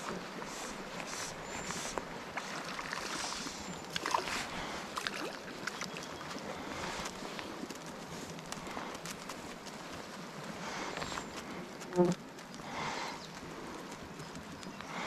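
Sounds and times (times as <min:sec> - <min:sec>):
brook water running and splashing: 0:00.0 - 0:15.0.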